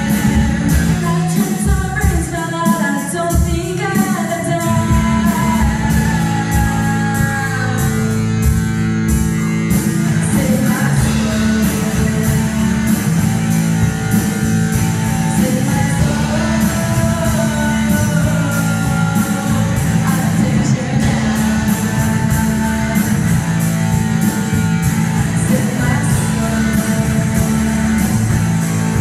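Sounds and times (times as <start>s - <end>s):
person singing: 0.0s - 8.8s, 9.8s - 29.0s
drum kit with cymbals: 0.0s - 29.0s
electric guitar: 0.0s - 29.0s.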